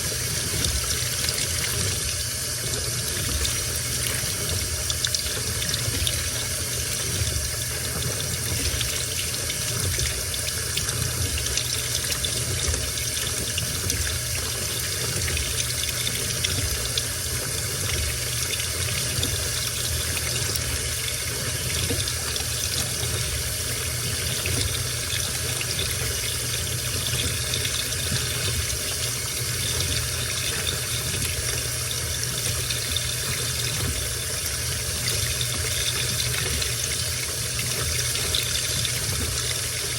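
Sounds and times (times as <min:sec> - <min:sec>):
water pouring into washing machine: 0:00.0 - 0:39.9.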